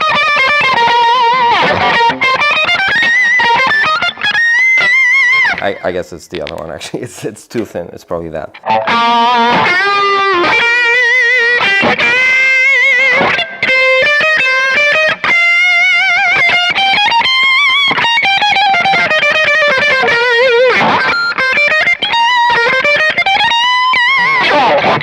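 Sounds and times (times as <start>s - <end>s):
electric guitar lead with vibrato: 0.0s - 5.9s, 8.5s - 25.0s.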